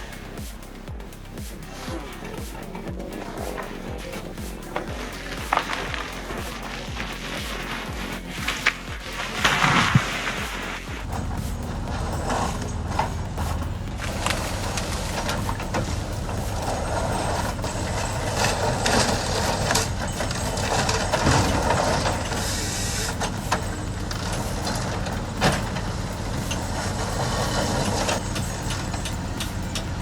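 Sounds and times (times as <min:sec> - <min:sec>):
heavy engine running: 0:00.0 - 0:30.0
knocks and clanks: 0:00.0 - 0:30.0.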